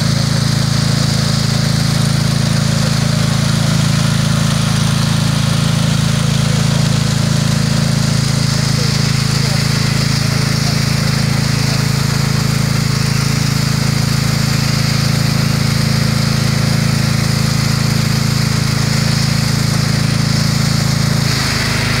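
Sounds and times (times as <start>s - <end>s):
water jet spraying on pavement: 0.0s - 22.0s
water pump engine humming: 0.0s - 22.0s.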